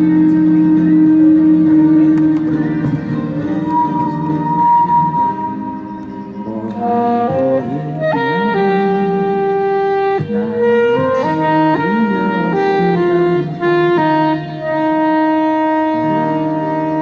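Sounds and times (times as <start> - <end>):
saxophone slow melody: 0.0 - 17.0.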